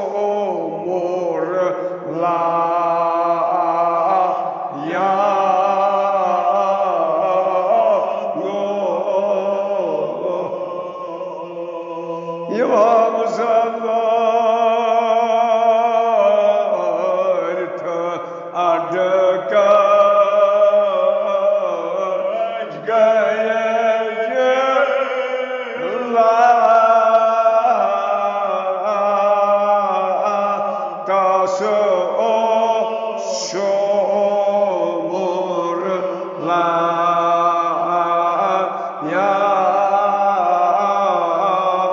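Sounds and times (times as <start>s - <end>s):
man chanting: 0.0s - 41.9s.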